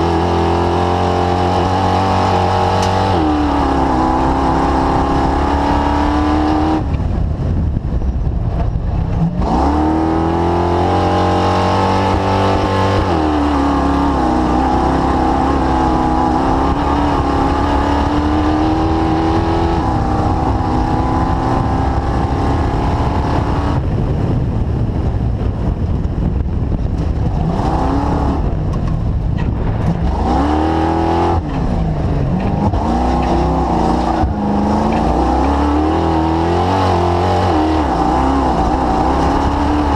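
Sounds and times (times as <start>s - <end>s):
engine revving: 0.0s - 7.6s, 8.2s - 24.7s, 26.9s - 39.9s.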